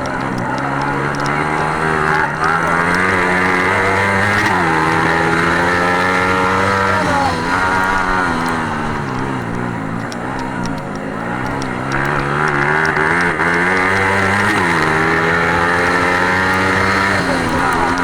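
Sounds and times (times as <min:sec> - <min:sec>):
racing engine revving: 0:00.0 - 0:18.0.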